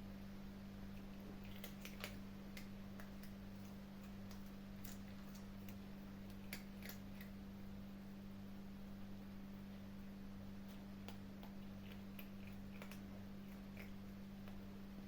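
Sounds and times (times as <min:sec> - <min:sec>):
steady low hum: 0:00.0 - 0:15.0
kittens chewing food: 0:00.8 - 0:08.2, 0:09.7 - 0:15.0.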